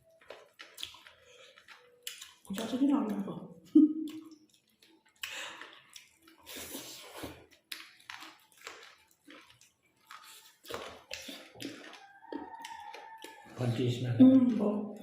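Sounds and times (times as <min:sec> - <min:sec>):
wet squishy chewing: 0:00.0 - 0:15.0.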